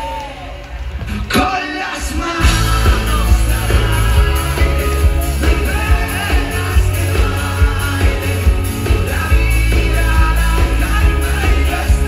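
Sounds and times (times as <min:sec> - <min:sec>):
heavy bass: 0:00.8 - 0:12.0
rock music with singing: 0:00.8 - 0:12.0.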